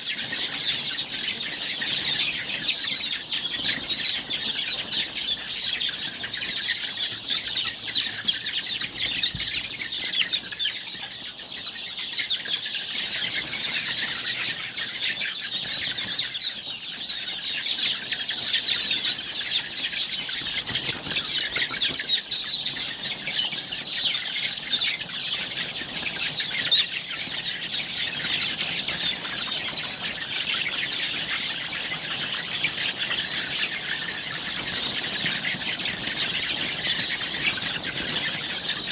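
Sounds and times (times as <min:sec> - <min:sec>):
flock of chickens calling: 0:00.0 - 0:38.9.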